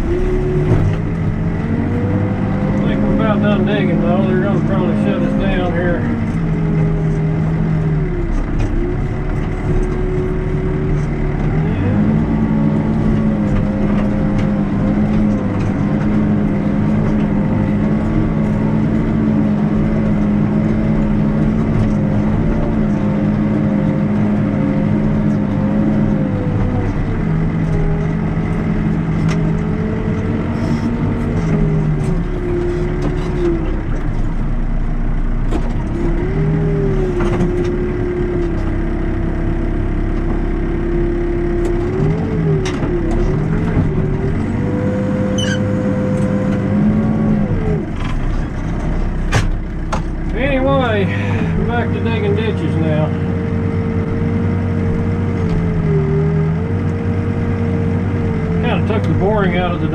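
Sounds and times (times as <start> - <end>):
backhoe diesel engine revving: 0.0 - 59.9.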